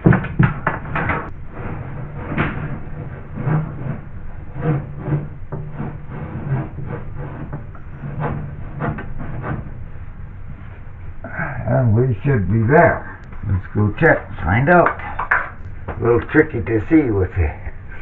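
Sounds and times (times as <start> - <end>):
rod scraping and knocking: 0.0 - 10.9, 12.7 - 17.0.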